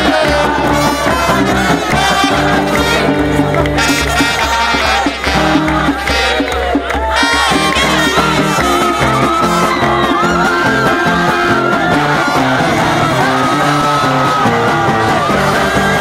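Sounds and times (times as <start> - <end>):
stepping bass line: 0.0 - 6.4, 7.0 - 16.0
lead singer singing: 0.0 - 16.0
upbeat band music: 0.0 - 16.0.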